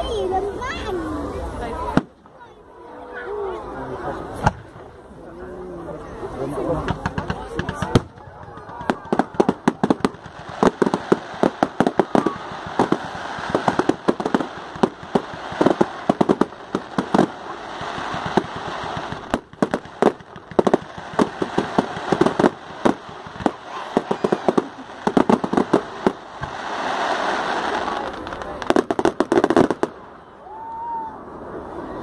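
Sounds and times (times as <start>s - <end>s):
fireworks bangs and crackles: 0.0s - 2.6s, 3.9s - 31.8s.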